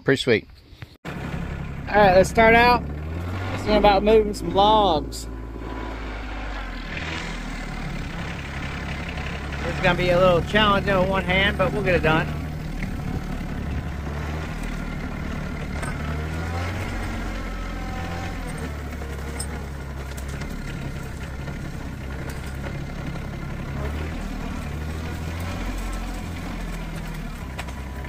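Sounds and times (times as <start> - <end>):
tractor engine running: 1.0 - 28.0.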